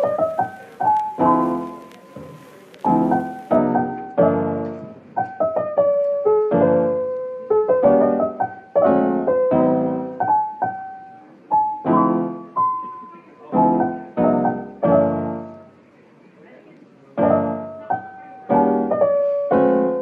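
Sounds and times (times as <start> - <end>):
piano music: 0.0 - 15.8, 17.2 - 20.0.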